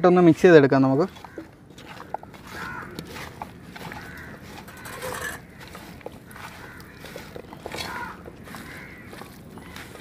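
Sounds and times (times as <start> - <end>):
hands squelching raw chicken: 0.2 - 10.0.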